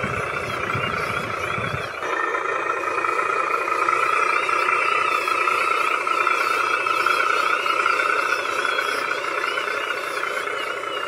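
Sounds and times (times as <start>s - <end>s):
toy truck electric motor whine: 0.0s - 11.0s.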